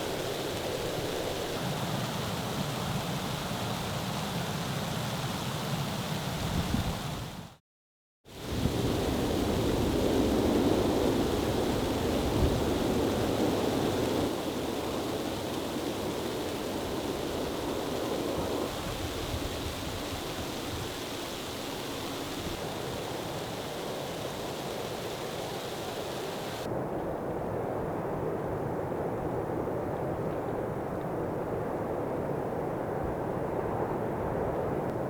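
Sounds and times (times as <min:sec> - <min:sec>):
rushing wind of a snowstorm: 0:00.0 - 0:07.6, 0:08.3 - 0:35.0.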